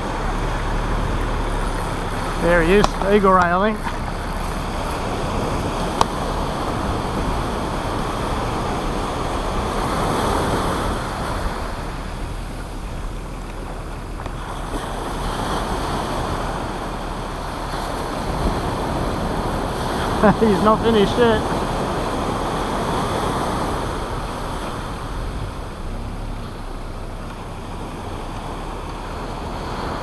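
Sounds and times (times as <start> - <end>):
surf breaking on beach: 0.0 - 30.0.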